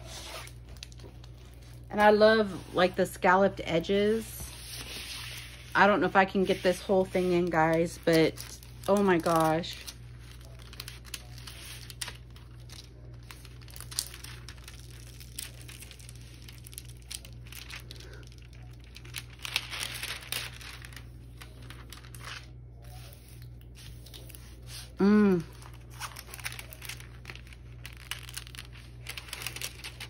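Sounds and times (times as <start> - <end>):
plastic film crinkling: 0.0 - 30.0.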